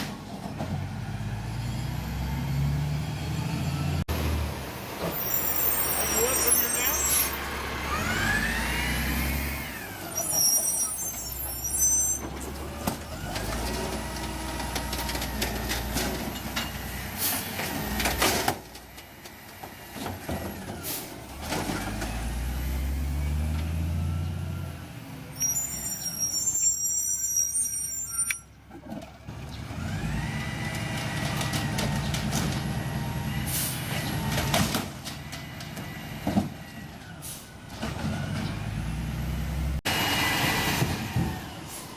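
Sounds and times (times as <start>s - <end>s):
diesel engine revving: 0.6s - 11.1s, 12.2s - 18.5s, 19.3s - 25.8s, 29.2s - 41.9s.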